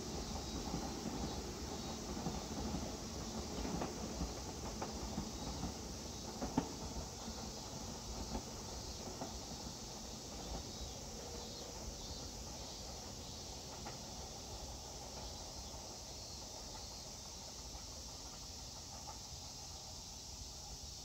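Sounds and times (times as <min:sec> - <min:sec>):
distant electric train rumble: 0:00.0 - 0:21.0
outdoor background noise: 0:00.0 - 0:21.0.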